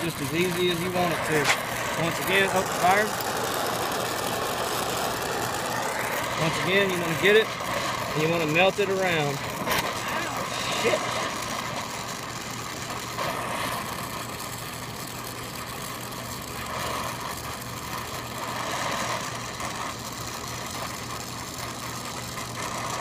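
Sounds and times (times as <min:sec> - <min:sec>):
steady low hum: 0:00.0 - 0:23.0
torch flame hissing: 0:00.0 - 0:23.0.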